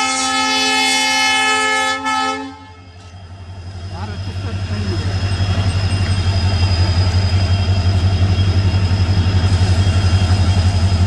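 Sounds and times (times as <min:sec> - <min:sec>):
diesel locomotive engine humming: 0:00.0 - 0:11.0.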